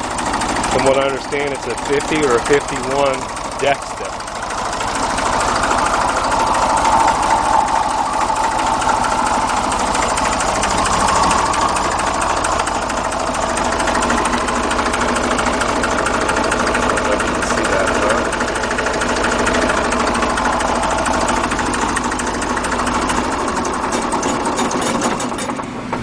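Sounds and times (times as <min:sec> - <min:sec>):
diesel engine idling: 0:00.0 - 0:26.0
water pump bearing roar: 0:00.0 - 0:26.0.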